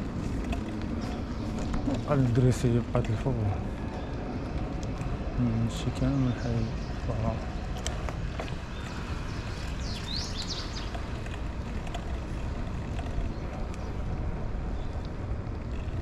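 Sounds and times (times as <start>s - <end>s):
bicycle tyres rolling on pavement: 0.0s - 16.0s.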